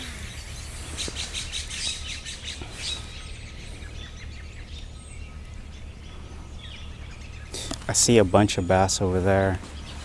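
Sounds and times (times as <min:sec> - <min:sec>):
small birds chirping: 0:00.0 - 0:10.0
steady low rumble: 0:00.0 - 0:10.0.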